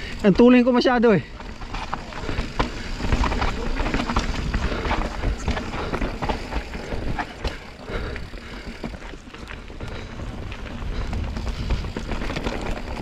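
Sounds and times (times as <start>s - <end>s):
bike tyres rolling over dirt: 0.0s - 13.0s
bike rattles and knocks: 1.2s - 13.0s.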